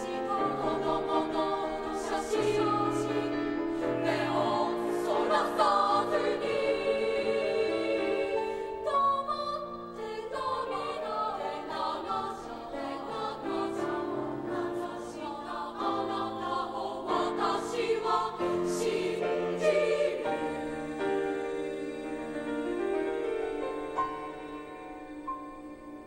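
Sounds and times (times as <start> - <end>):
choir singing in harmony: 0.0 - 26.0.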